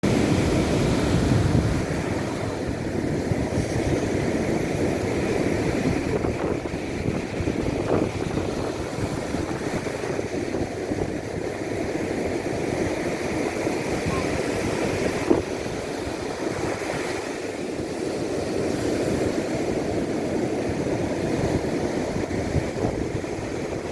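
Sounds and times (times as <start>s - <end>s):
rough surf: 0.0s - 23.9s
wind rumbling on microphone: 0.0s - 23.9s.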